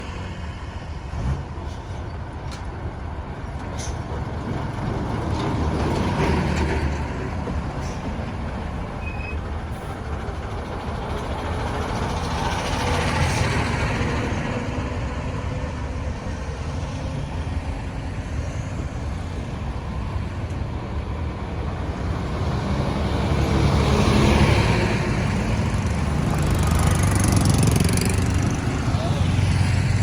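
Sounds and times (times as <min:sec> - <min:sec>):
road traffic passing: 0:00.0 - 0:30.0
vehicle deep engine rumble: 0:00.6 - 0:30.0.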